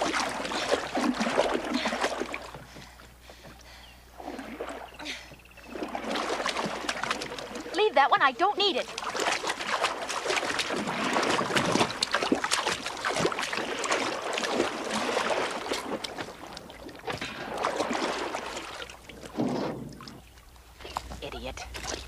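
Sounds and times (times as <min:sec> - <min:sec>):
water splashing from wading: 0:00.0 - 0:02.8, 0:04.1 - 0:22.0.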